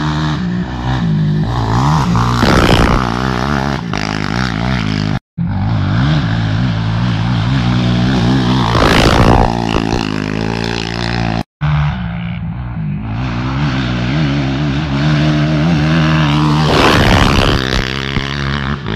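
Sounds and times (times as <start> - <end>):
quad bike engine revving: 0.0 - 18.9.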